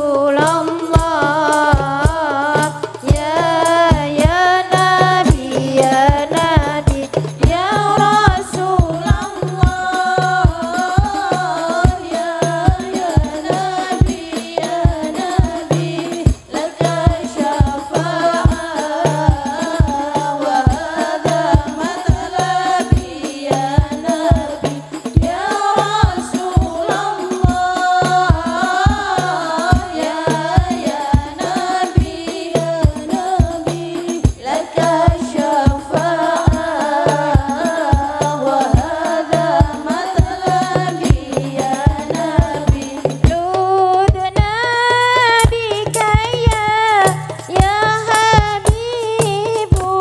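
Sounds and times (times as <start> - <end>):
frame drums beating: 0.0 - 50.0
women singing together: 0.0 - 50.0.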